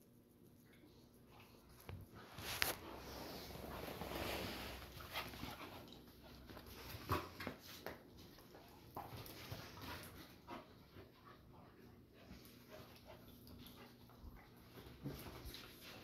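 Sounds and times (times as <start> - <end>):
puppies play-wrestling: 1.6 - 16.0.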